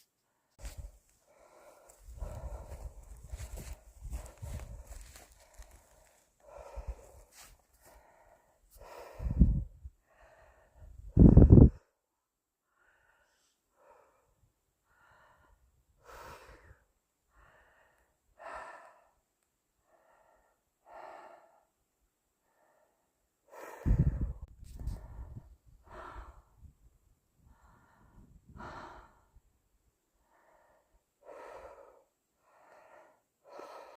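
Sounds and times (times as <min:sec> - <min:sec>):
person breathing hard: 0:00.2 - 0:12.0, 0:12.6 - 0:21.8, 0:22.4 - 0:26.7, 0:27.4 - 0:29.5, 0:30.2 - 0:33.9.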